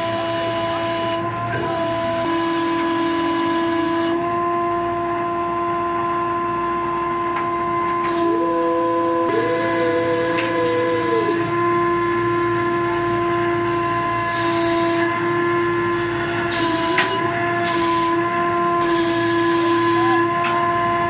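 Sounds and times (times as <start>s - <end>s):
machinery whine: 0.0s - 21.0s.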